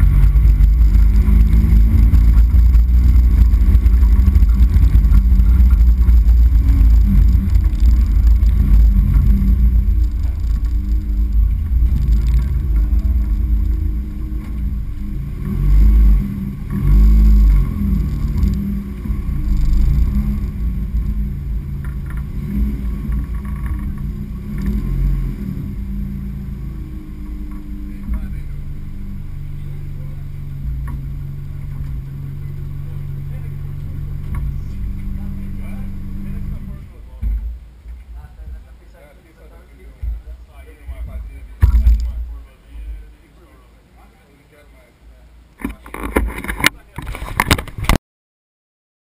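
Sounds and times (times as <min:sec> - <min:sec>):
loud low exhaust booms: 0:00.0 - 0:43.1
car engine at low revs: 0:00.0 - 0:48.0.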